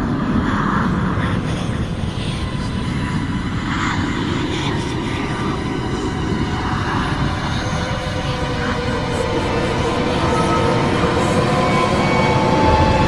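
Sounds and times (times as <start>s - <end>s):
low rumbling drone: 0.9s - 13.0s.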